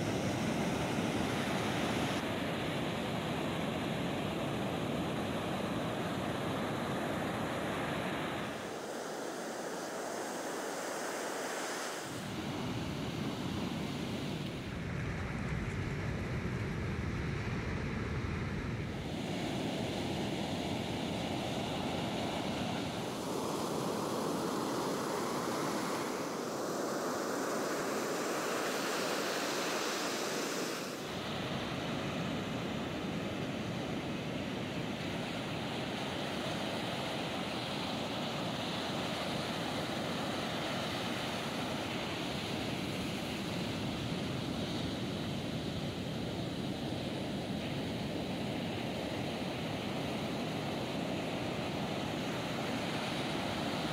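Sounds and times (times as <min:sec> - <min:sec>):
heavy ocean surf breaking: 0:00.0 - 0:53.9.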